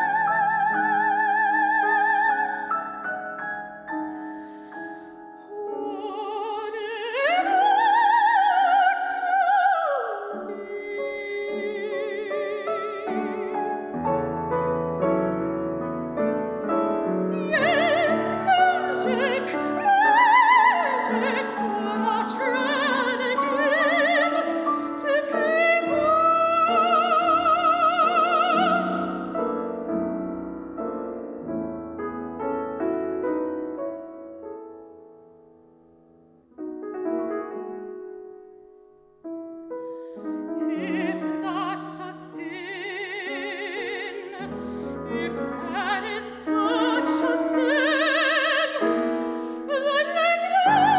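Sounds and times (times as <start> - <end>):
soprano singing operatic aria: 0.0 - 30.4, 40.0 - 50.9
piano accompaniment: 0.0 - 50.9.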